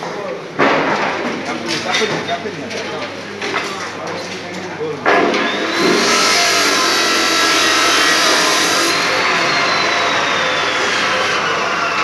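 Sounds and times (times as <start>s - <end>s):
plate bending machine rolling steel: 1.5s - 12.0s.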